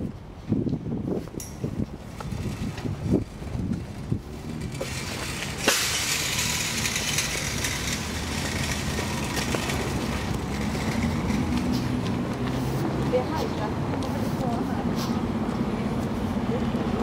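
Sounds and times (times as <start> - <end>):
low engine hum: 1.8 - 17.0
traffic rushing hiss: 3.4 - 17.0.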